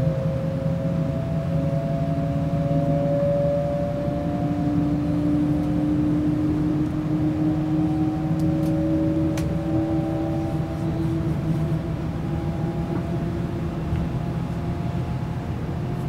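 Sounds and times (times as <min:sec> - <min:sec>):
traction motor whine: 0:00.0 - 0:16.0
wheels rumbling on rail: 0:00.0 - 0:16.0.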